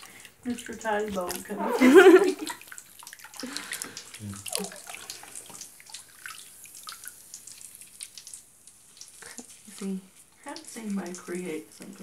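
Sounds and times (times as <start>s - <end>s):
hand splashing bath water: 0.0s - 12.0s
water trickling and dripping: 0.0s - 12.0s.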